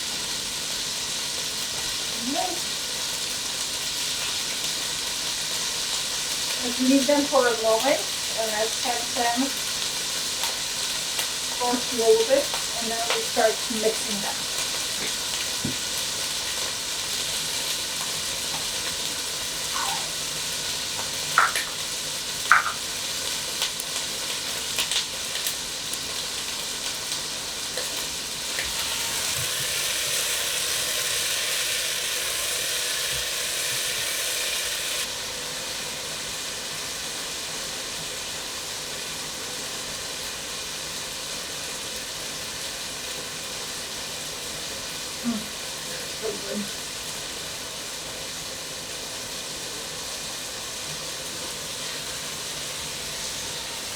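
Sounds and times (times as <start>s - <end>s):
tomatoes sizzling in a frying pan: 0.0s - 53.9s.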